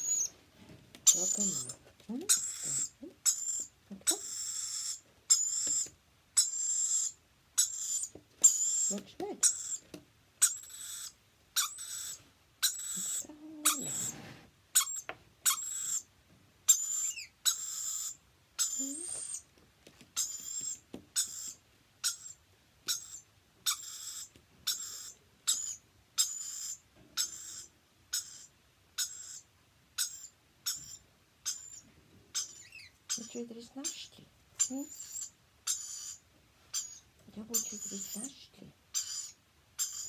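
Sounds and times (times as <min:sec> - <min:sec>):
lorikeet squawking: 0:00.0 - 0:00.4, 0:01.1 - 0:09.8, 0:10.4 - 0:14.2, 0:14.8 - 0:16.1, 0:16.7 - 0:19.4, 0:20.2 - 0:34.0, 0:34.6 - 0:40.0.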